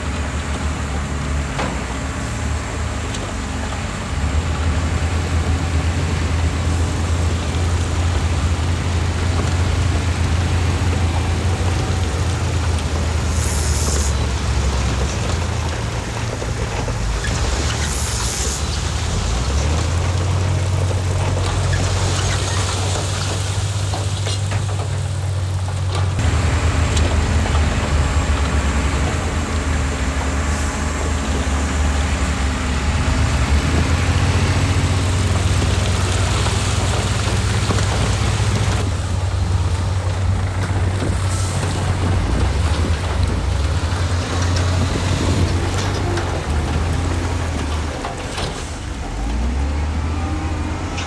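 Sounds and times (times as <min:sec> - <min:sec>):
noisy machine clatter: 0:00.0 - 0:49.5
heavy diesel engine running: 0:00.0 - 0:51.0.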